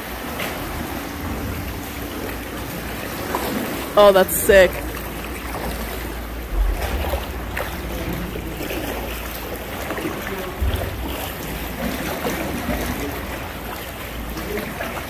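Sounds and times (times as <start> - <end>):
water lapping around kayak: 0.0 - 15.0.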